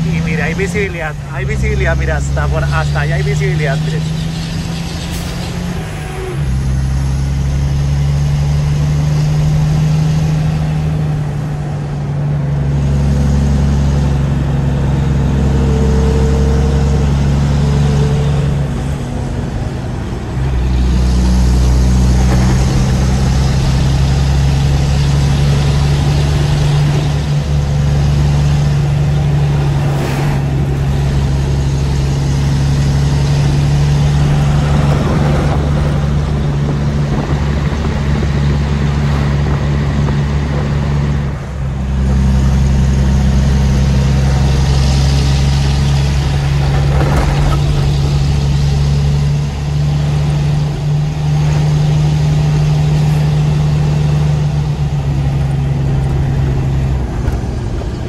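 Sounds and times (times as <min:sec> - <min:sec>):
diesel truck engine pulling uphill: 0:00.0 - 0:58.0.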